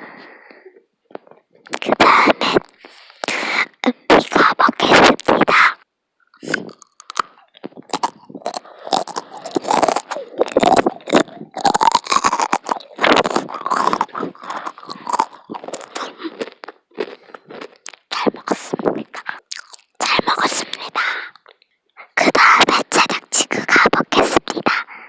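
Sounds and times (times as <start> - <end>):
close-up crunching and crackling: 1.1 - 5.6, 6.4 - 24.8.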